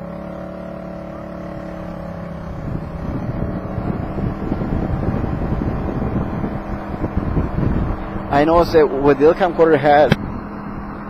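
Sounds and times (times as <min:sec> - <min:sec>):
scooter engine running: 0:00.0 - 0:11.0
wind buffeting microphone: 0:00.6 - 0:11.0.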